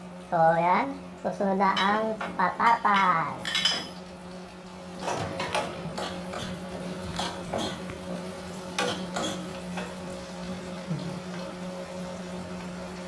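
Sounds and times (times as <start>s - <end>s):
potatoes frying in oil: 0.0s - 13.0s.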